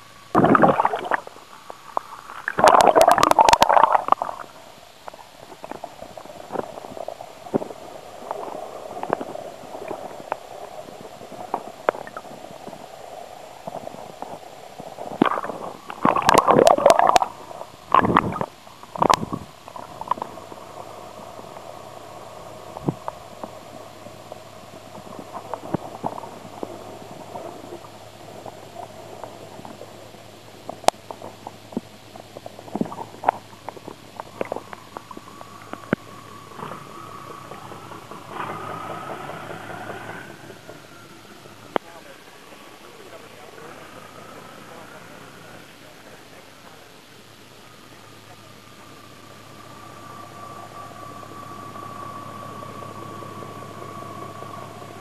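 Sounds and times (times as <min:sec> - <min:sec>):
muffled underwater gurgling: 0:00.0 - 0:55.0
churning water and bubbles: 0:00.3 - 0:47.8.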